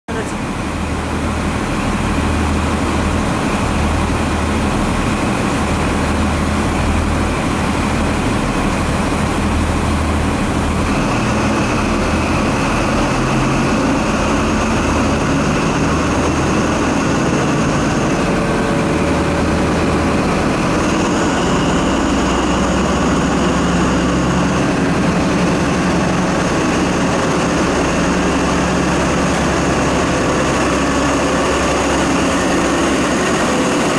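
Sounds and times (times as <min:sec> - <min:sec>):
diesel train engine running: 0:00.1 - 0:33.9
high steady whine: 0:00.1 - 0:33.9.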